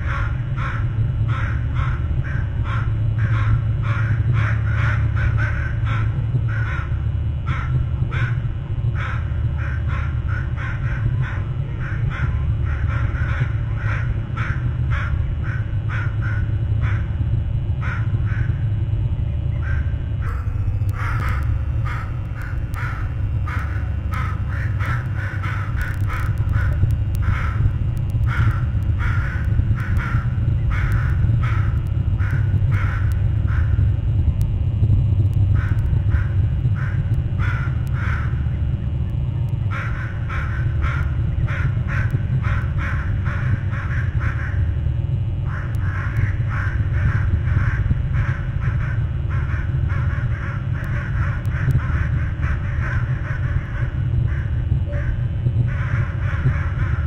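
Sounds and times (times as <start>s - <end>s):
crows cawing: 0.0s - 8.4s, 9.0s - 17.1s, 17.8s - 18.5s, 19.6s - 33.8s, 35.5s - 38.6s, 39.7s - 44.7s, 45.5s - 57.0s
low rumble: 0.0s - 57.0s.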